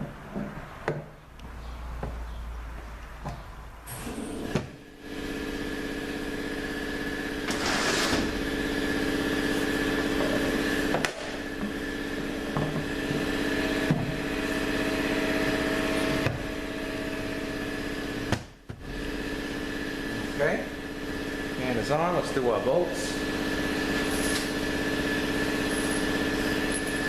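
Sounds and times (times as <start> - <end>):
motor humming: 3.9 - 27.0.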